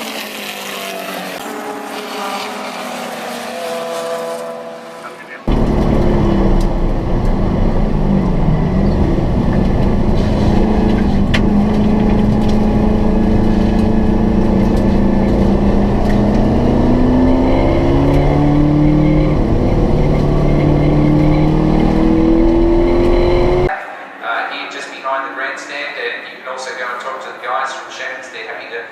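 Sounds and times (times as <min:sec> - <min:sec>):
race car engines roaring: 0:00.0 - 0:24.9.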